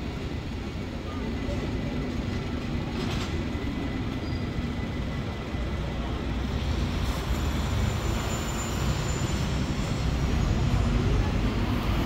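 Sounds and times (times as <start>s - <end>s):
large vehicle rumbling: 0.0s - 12.0s.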